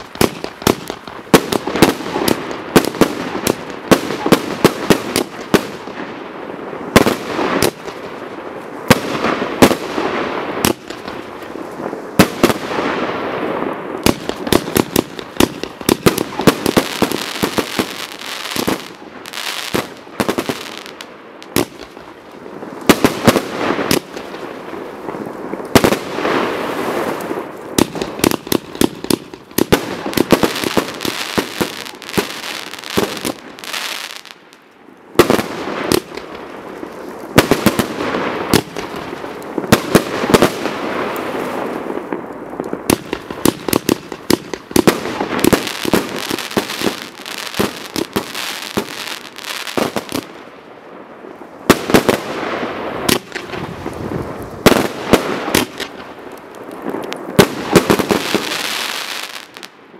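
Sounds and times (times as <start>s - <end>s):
firework barrage shots and bursts: 0.0s - 34.5s, 35.1s - 59.9s.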